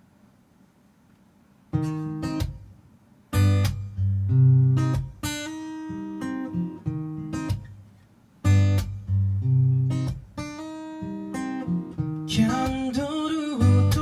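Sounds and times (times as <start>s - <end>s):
acoustic guitar strumming and picking: 1.7s - 14.0s.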